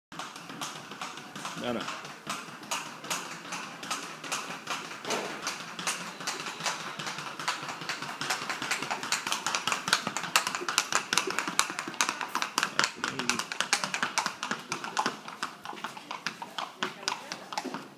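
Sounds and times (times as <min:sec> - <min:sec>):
hooves on concrete: 0:00.1 - 0:17.9.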